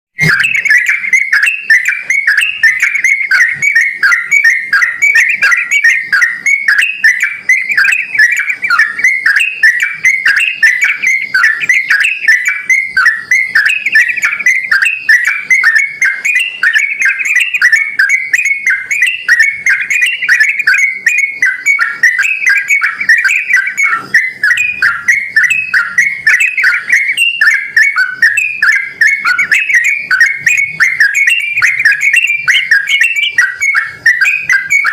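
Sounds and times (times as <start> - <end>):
bulbul singing whistled notes: 0.2 - 34.9.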